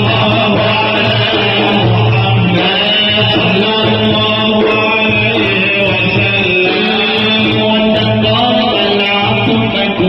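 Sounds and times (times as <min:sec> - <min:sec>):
men chanting in a drone: 0:00.0 - 0:10.0.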